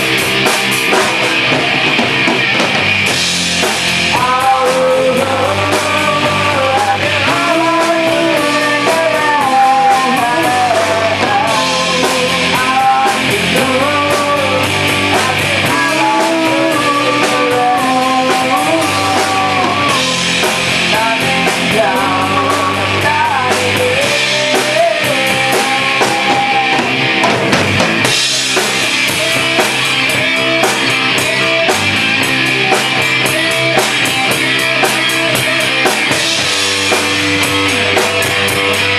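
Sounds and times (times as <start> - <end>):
drum kit: 0.0 - 38.9
electric bass: 0.0 - 38.9
electric guitar: 0.0 - 38.9
person singing lead vocal: 3.6 - 27.4, 28.2 - 38.9.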